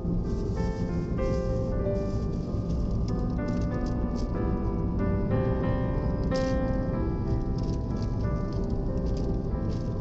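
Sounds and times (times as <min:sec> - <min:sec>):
piano-like keyboard chords: 0:00.0 - 0:10.0.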